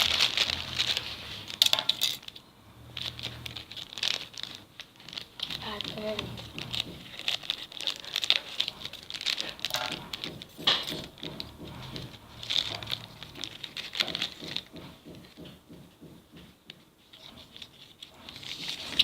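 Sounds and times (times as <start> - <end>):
plastic packaging crinkling: 0.0 - 15.4, 17.0 - 19.0.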